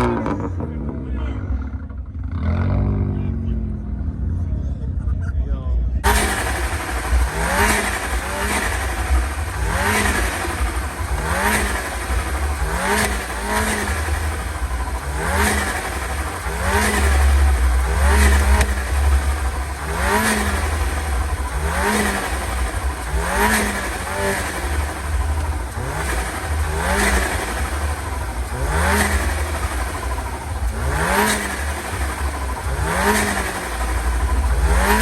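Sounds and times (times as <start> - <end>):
car engine revving in blips: 0.0 - 4.6, 6.0 - 35.0
deep exhaust rumble: 0.0 - 35.0.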